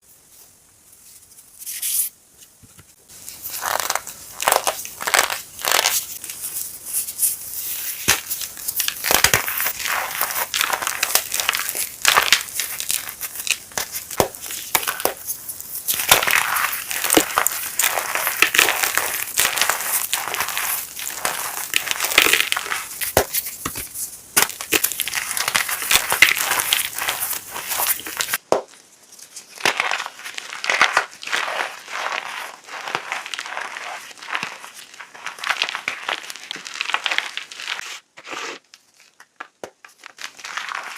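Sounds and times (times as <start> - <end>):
chalk being crushed: 3.2 - 40.9.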